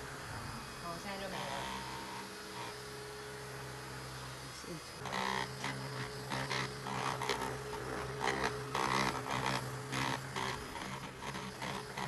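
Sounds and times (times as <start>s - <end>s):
handheld vacuum motor hum: 0.0s - 12.0s
vacuum scraping over bedding: 0.0s - 12.0s.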